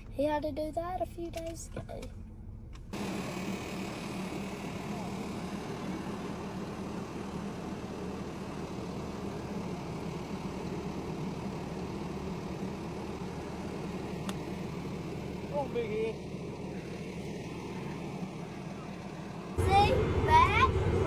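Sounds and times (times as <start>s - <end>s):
tractor engine droning: 1.3s - 21.0s.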